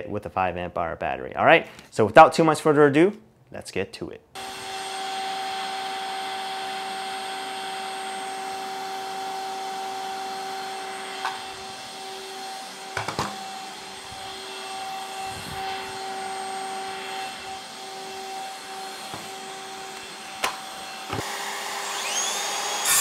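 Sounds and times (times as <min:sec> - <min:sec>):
shop vacuum humming: 0:04.4 - 0:23.0.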